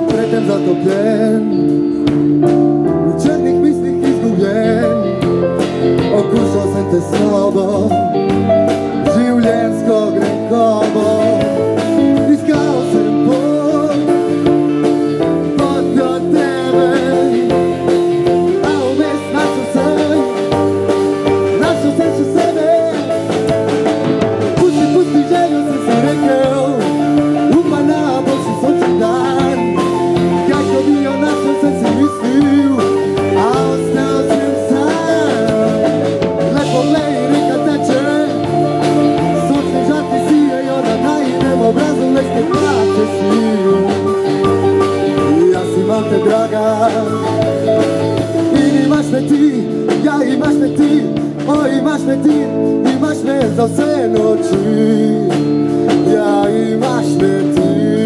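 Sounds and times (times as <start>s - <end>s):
band playing guitar and drums: 0.0s - 58.0s.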